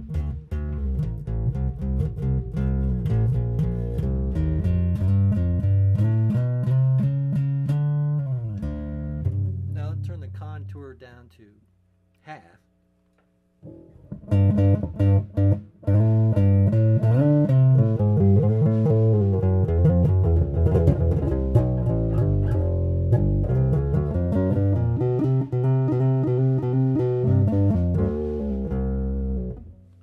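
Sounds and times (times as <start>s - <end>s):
electric bass guitar: 0.0s - 11.0s, 13.6s - 30.0s.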